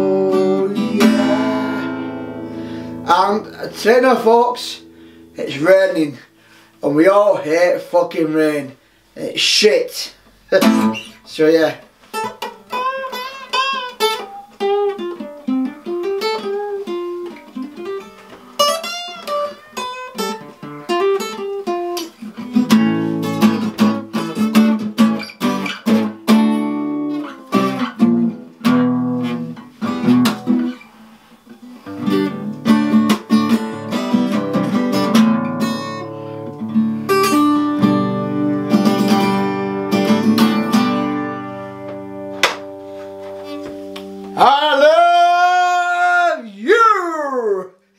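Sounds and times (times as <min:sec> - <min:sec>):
acoustic guitar bending notes: 0:00.0 - 0:08.4, 0:10.2 - 0:47.3
acoustic guitar strumming chords: 0:00.0 - 0:08.6, 0:10.2 - 0:46.4.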